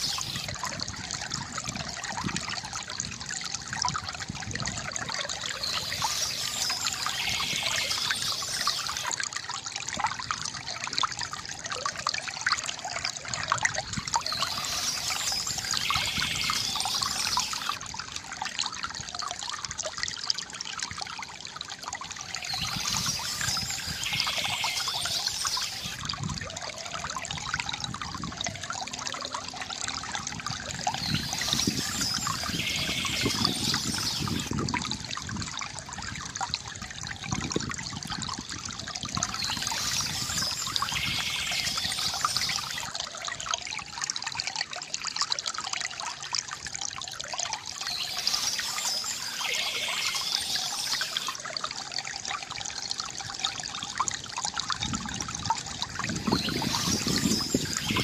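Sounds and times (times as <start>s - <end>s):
high-pitched water splashing: 0.0s - 58.0s
water trickling from bamboo fountain: 0.0s - 58.0s.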